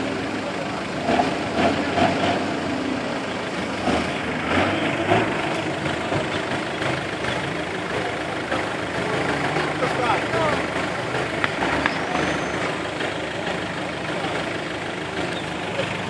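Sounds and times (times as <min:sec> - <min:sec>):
off-road engines running: 0:00.0 - 0:16.0.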